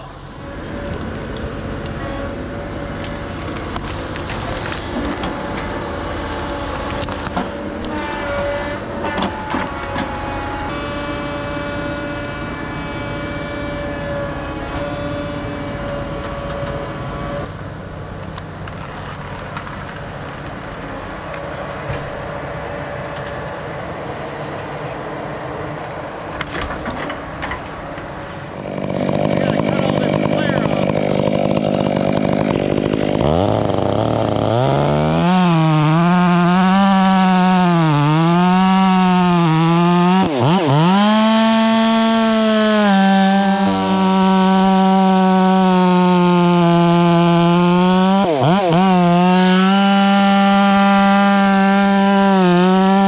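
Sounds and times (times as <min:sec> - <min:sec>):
diesel engine running with whine: 0:00.0 - 0:51.3.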